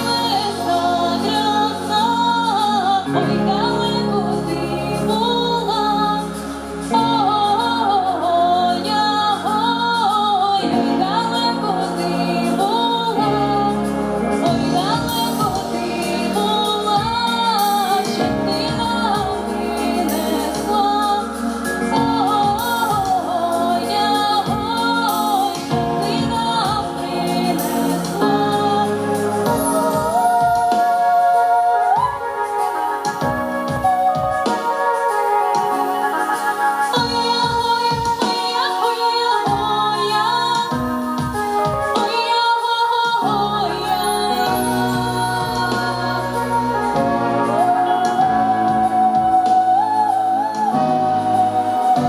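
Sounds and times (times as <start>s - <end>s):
girl singing into microphone: 0.0s - 52.0s
instrumental accompaniment: 0.0s - 52.0s.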